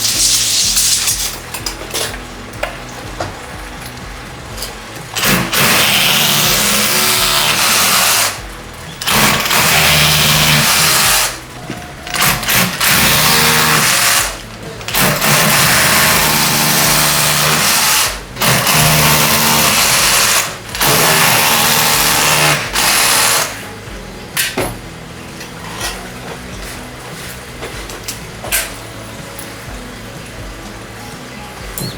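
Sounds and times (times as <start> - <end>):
power tool running: 0.0 - 30.8.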